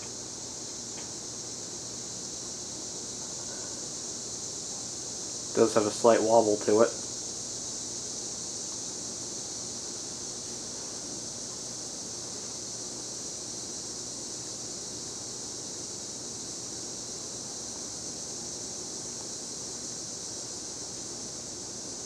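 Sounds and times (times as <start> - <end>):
ceiling fan air rush: 0.0 - 22.0.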